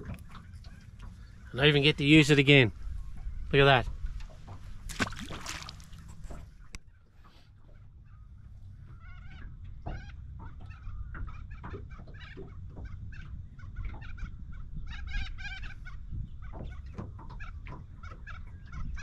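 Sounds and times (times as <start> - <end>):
birds clucking: 0.0 - 19.0.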